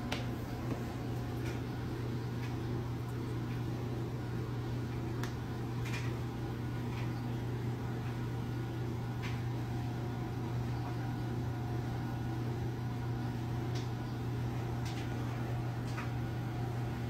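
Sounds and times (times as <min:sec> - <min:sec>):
projector cooling fan hum: 0:00.0 - 0:17.0.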